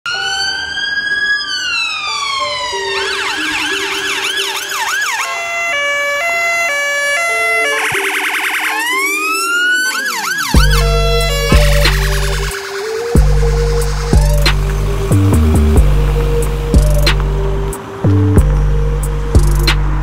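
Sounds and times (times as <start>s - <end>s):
electronic emergency siren: 0.1s - 19.7s.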